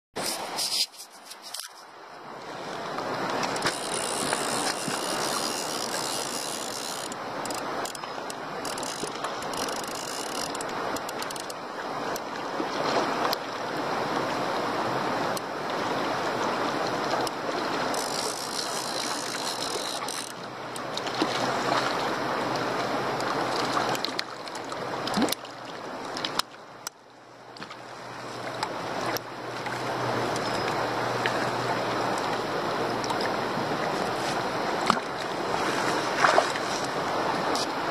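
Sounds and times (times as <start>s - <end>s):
stream running over stones: 0.2s - 37.9s.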